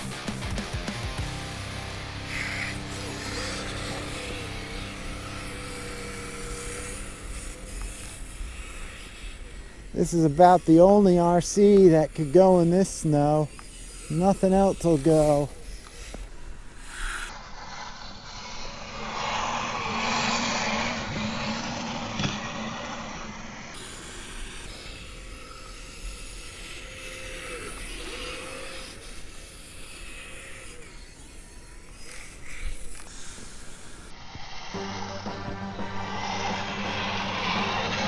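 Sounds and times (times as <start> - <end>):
electric motor whine: 0.0 - 17.3, 19.7 - 38.0.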